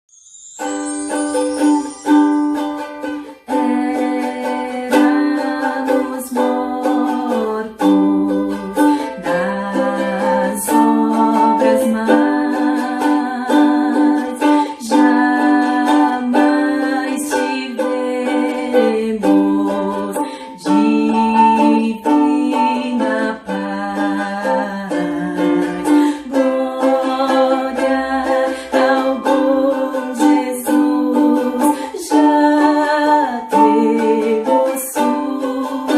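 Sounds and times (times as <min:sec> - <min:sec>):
ukulele strumming a hymn: 0:00.6 - 0:35.9.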